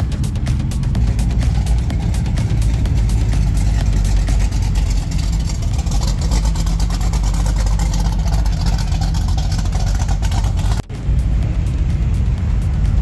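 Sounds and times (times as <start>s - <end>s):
vehicle engine deep rumble: 0.0s - 13.0s.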